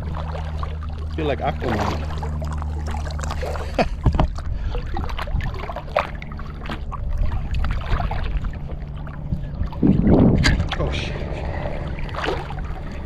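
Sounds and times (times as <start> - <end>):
faint steady hum: 0.0 - 13.0
low rumble: 0.0 - 13.0
water splashing and sloshing: 0.0 - 13.0.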